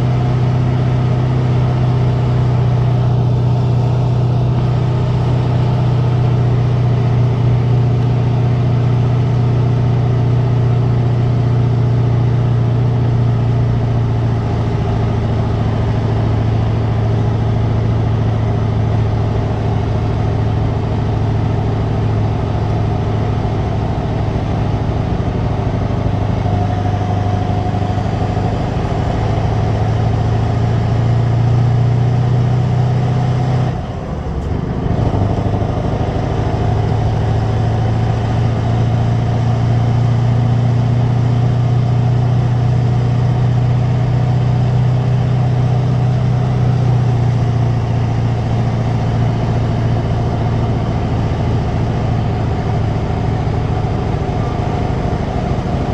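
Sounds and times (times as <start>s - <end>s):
diesel truck engine drone: 0.0s - 55.9s.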